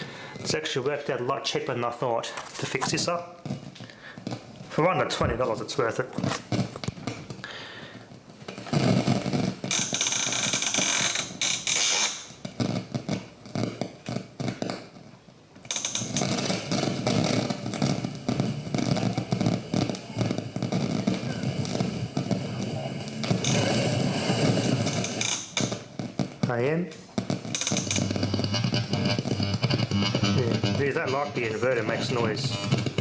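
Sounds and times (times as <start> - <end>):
radio static crackling hiss: 0.0 - 33.0.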